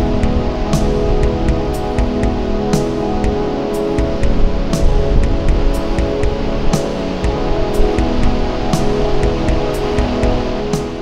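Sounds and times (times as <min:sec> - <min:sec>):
synthesized background music: 0:00.0 - 0:11.0.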